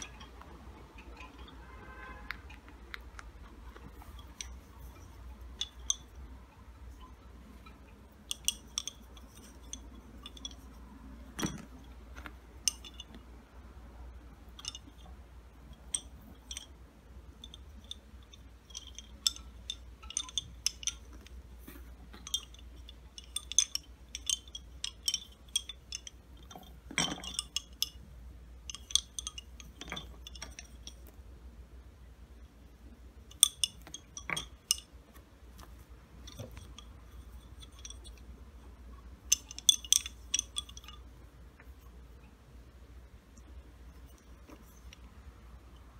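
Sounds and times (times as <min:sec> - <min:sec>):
wooden bobbins clicking: 0:00.0 - 0:31.3, 0:32.5 - 0:42.1.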